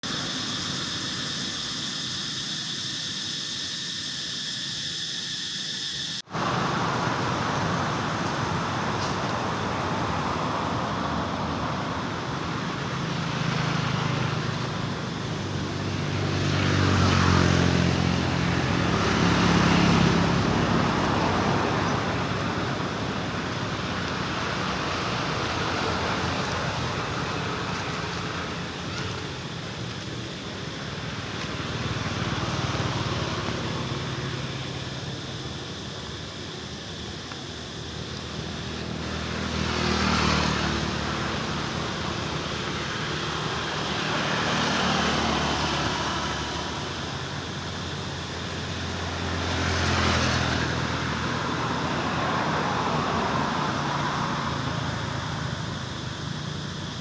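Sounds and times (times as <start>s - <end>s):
cicadas droning: 0.0s - 57.0s
road traffic: 0.0s - 57.0s
motor vehicle passing: 6.3s - 56.9s.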